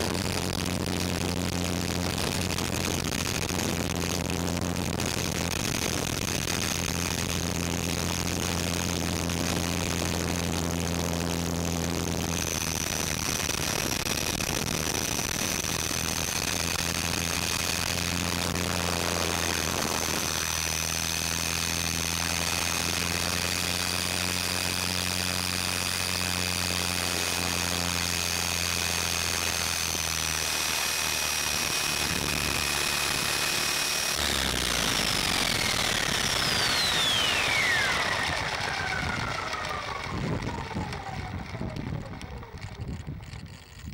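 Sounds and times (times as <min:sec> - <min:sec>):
motor and gear whine: 0:00.0 - 0:43.9
rc helicopter rotor thrum: 0:00.0 - 0:43.9.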